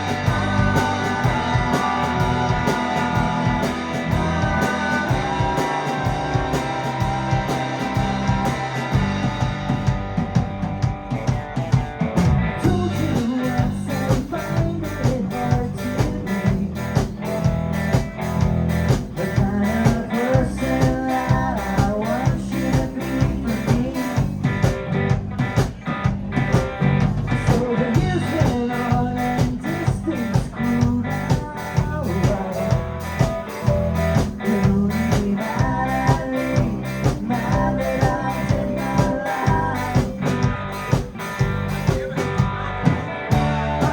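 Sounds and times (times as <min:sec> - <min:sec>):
bass guitar: 0:00.0 - 0:43.9
drum kit steady beat: 0:00.0 - 0:43.9
electric guitar: 0:00.0 - 0:43.9.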